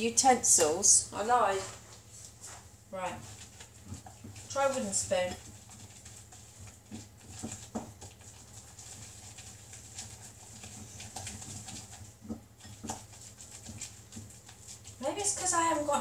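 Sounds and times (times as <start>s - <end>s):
spoon stirring in glass bowl: 2.2s - 16.0s.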